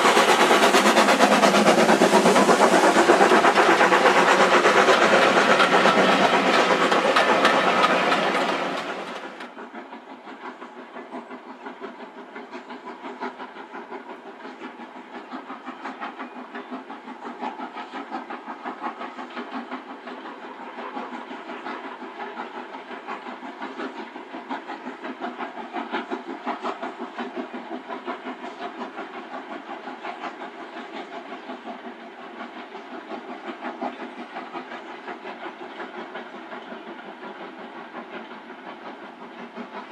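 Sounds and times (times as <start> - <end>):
distant steam locomotive chuffing: 0.0 - 39.9
train carriages rumbling and clattering: 0.0 - 39.9.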